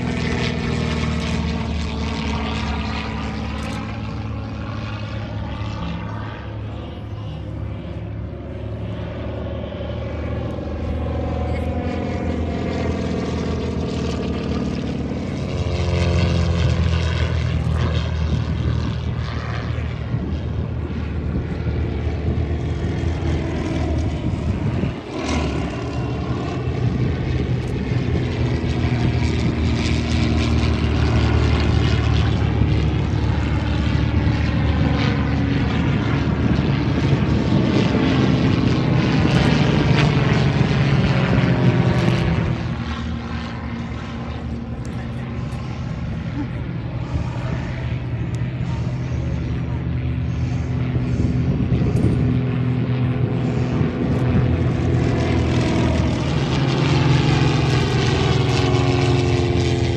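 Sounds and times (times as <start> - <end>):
propeller planes flying overhead: 0.0 - 59.9.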